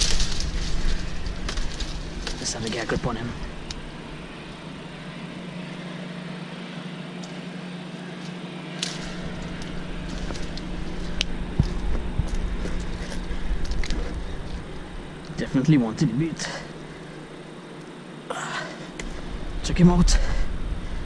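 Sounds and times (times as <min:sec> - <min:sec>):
low rumble: 0:00.0 - 0:06.6, 0:08.8 - 0:17.6, 0:18.9 - 0:21.0
branches and leaves rustling: 0:00.0 - 0:21.0
steady low hum: 0:00.0 - 0:21.0.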